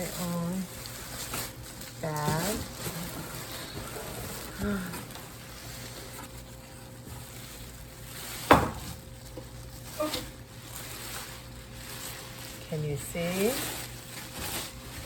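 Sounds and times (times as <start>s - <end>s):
faint rustling and handling: 0.0s - 15.0s.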